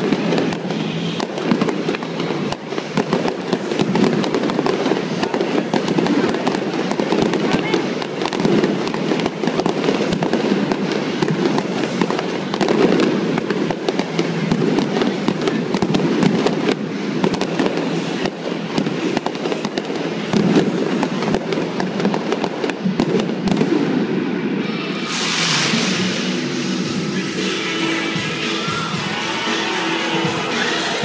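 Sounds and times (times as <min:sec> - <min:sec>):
fireworks popping and crackling: 0:00.0 - 0:31.0.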